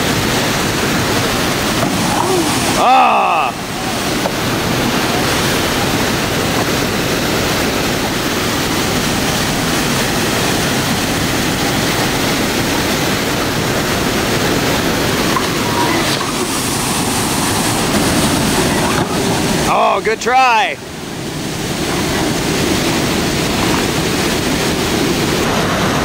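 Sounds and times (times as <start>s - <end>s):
river rapids and waterfall rushing: 0.0s - 26.0s.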